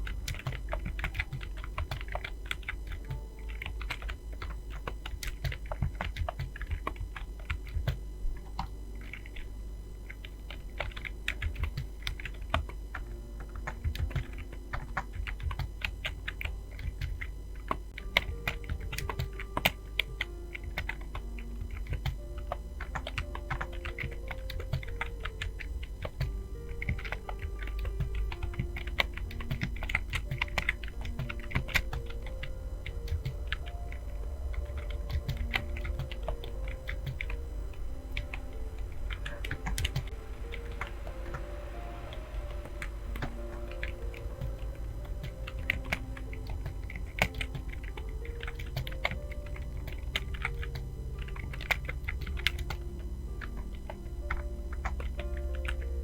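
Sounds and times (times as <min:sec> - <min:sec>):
faint music: 0:00.0 - 0:56.0
fast typing on keyboard: 0:00.0 - 0:56.0.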